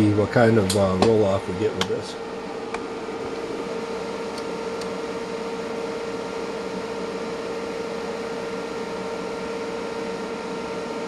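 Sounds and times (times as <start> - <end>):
cooling fan whirring: 0.0 - 11.0.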